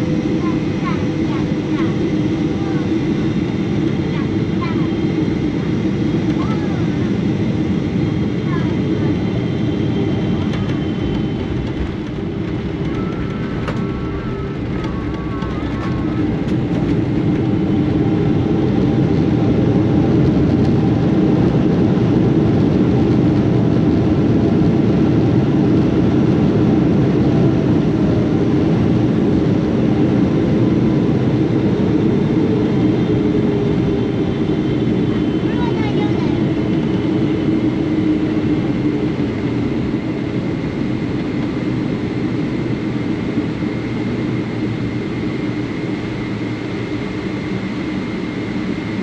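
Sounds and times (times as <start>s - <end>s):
jet engine roar in cabin: 0.0s - 49.0s.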